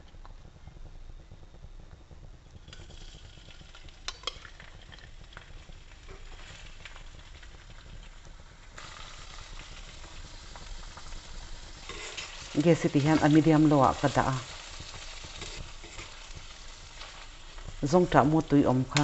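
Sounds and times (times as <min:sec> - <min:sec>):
hot oil sizzling in a wok: 0:01.3 - 0:19.0.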